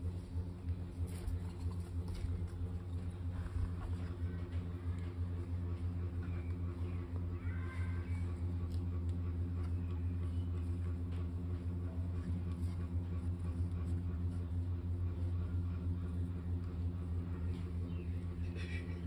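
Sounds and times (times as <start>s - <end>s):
machine humming steadily: 0.0s - 19.0s.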